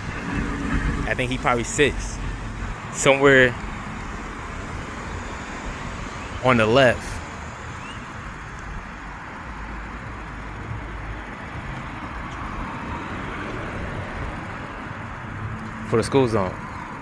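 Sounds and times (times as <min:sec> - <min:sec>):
heavy vehicle rumble: 0:00.0 - 0:17.0
road traffic passing: 0:00.0 - 0:17.0.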